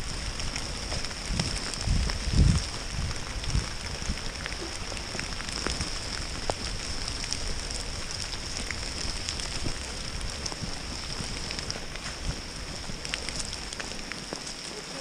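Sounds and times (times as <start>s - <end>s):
rain pattering: 0.0s - 15.0s
raindrops ticking sharply: 0.0s - 15.0s.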